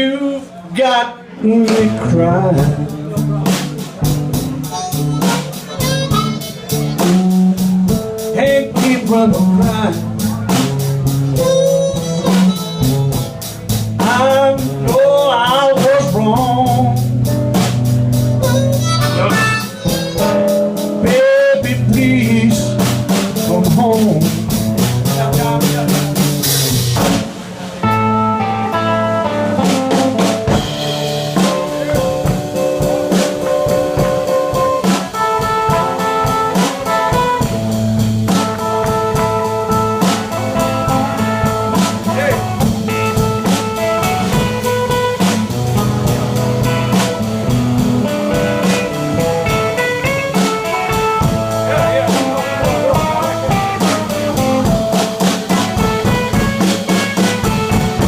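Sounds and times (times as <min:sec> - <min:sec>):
live blues band playing: 0:00.0 - 0:58.0.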